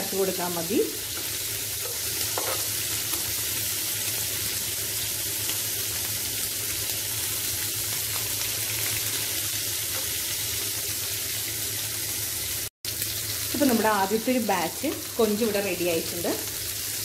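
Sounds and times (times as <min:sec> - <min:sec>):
prawns sizzling in a pan: 0:00.0 - 0:17.0.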